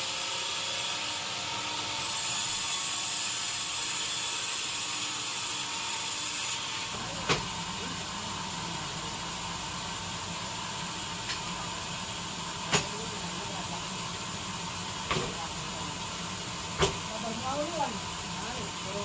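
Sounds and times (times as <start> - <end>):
sawmill machinery high hiss: 0.0 - 19.0.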